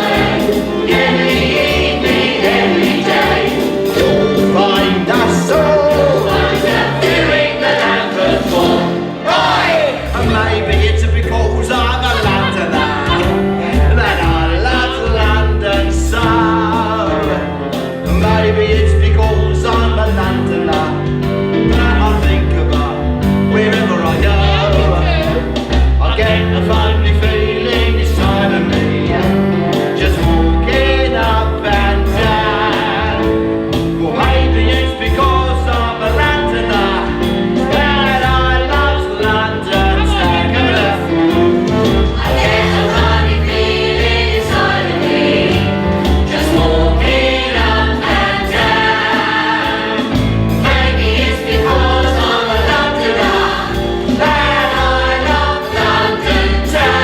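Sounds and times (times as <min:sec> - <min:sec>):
beat and bass line: 0:00.0 - 0:57.0
group singing show tune: 0:00.0 - 0:57.0.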